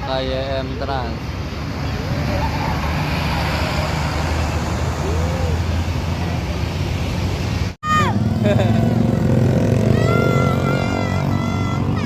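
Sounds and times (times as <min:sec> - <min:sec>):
bus engine passing: 0:00.0 - 0:12.0
road traffic noise: 0:00.0 - 0:12.0.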